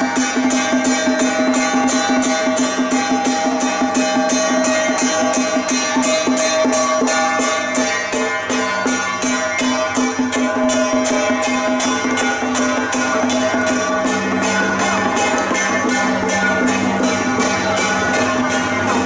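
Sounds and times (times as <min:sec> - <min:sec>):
cymbals clashing: 0:00.0 - 0:19.0
held steady tones: 0:00.0 - 0:19.0.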